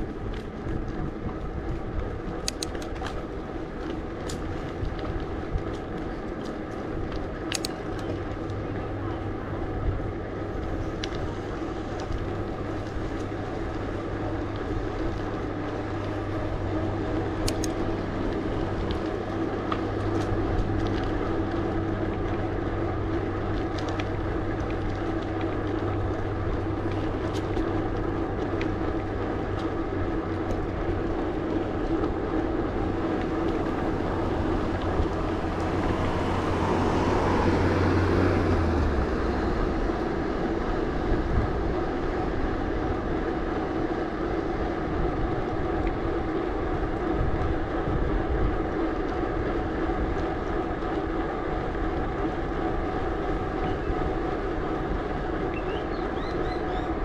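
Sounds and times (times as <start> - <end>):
bike tyres humming on pavement: 0.0 - 57.0.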